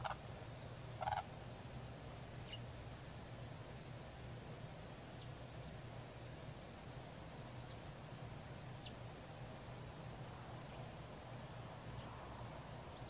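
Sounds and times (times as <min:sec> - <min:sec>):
faint low outdoor hum: 0:00.0 - 0:13.0.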